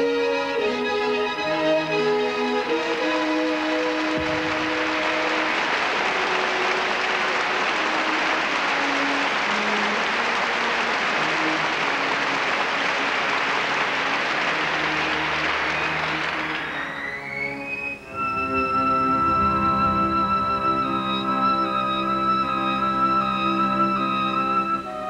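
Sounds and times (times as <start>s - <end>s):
orchestra playing softly: 0.0s - 25.0s
audience applauding: 2.6s - 25.0s.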